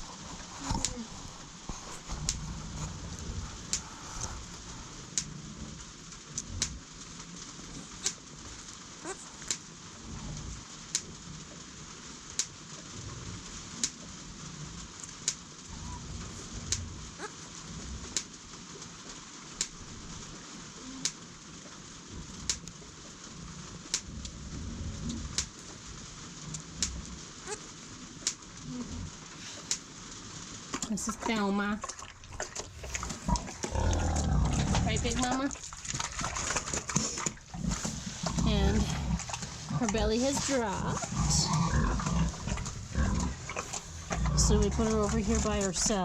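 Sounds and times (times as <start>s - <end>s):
steady hiss and low rumbling: 0.0s - 46.0s.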